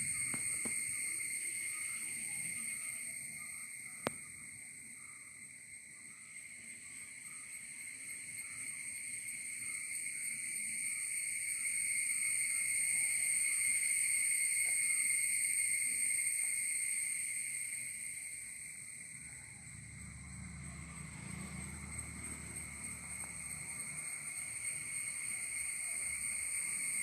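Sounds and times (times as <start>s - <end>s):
insects calling: 0.0s - 27.0s.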